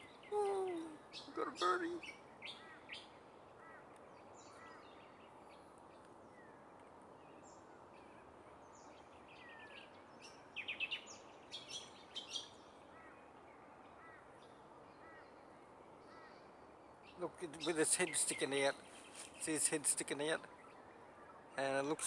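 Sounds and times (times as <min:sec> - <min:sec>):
faint background hiss: 0:00.0 - 0:22.0
wild birds chirping: 0:00.0 - 0:22.0.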